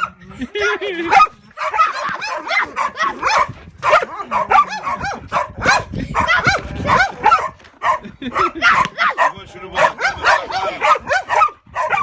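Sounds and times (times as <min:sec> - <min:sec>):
dog barking and yipping: 0:01.0 - 0:12.0.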